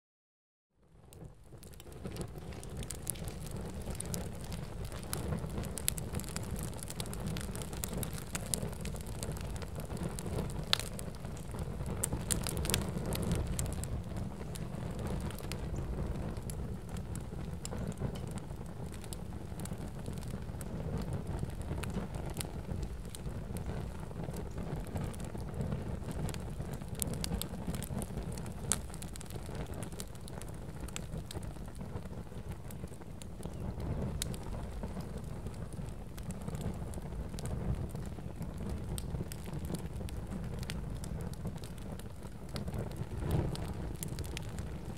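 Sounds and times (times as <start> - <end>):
fire crackling and popping: 0.8 - 44.9.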